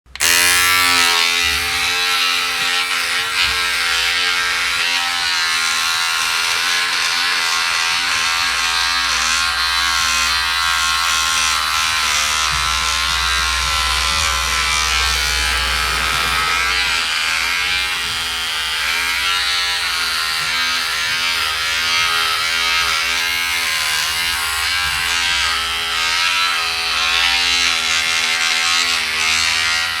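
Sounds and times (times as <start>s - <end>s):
electric beard trimmer buzzing: 0.1s - 30.0s.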